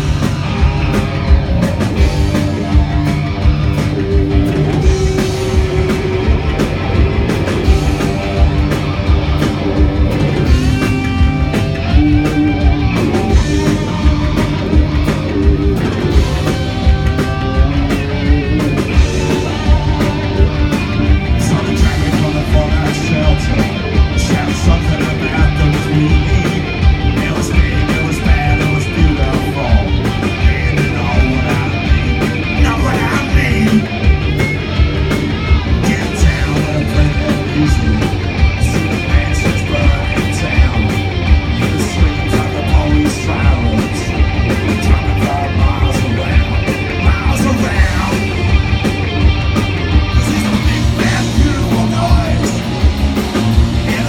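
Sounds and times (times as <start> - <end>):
distorted electric guitars: 0.0 - 54.0
driving drum beat: 0.0 - 54.0.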